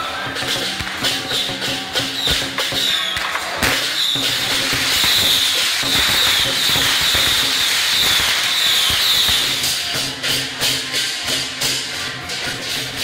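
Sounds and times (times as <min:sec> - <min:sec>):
drum strokes: 0:00.0 - 0:13.0
firecrackers crackling: 0:00.0 - 0:13.0
hand cymbals clashing: 0:00.0 - 0:13.0.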